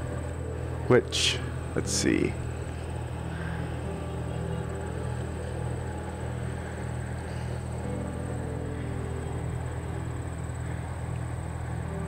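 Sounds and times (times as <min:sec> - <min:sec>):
low outdoor rumble: 0:00.0 - 0:12.0
thin high whine: 0:00.0 - 0:12.0.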